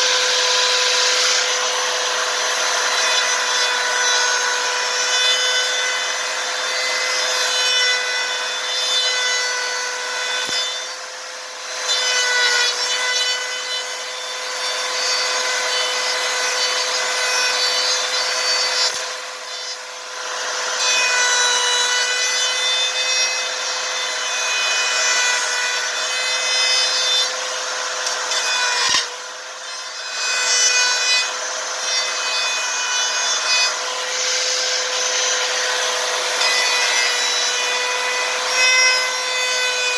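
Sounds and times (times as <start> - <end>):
electric saw cutting: 0.0 - 39.9.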